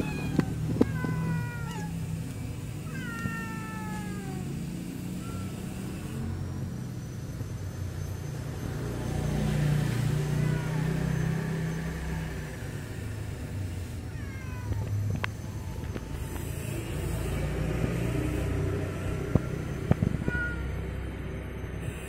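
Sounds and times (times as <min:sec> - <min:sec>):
cats meowing: 0:00.0 - 0:07.0, 0:09.8 - 0:20.9.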